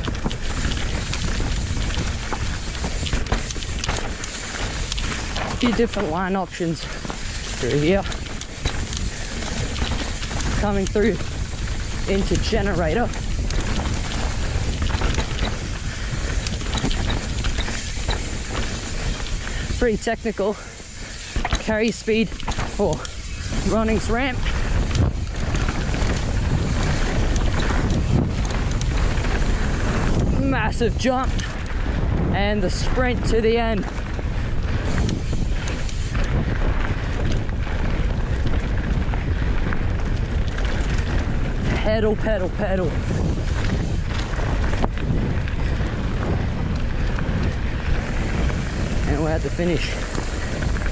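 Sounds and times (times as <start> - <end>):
bike rattling and clicking: 0.0 - 50.9
bike tyres on dirt: 0.0 - 50.9
wind buffeting microphone: 0.0 - 50.9.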